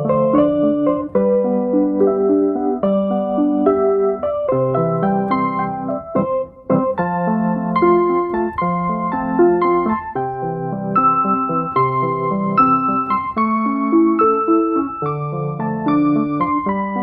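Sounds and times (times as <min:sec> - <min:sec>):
electric piano music: 0:00.0 - 0:17.0.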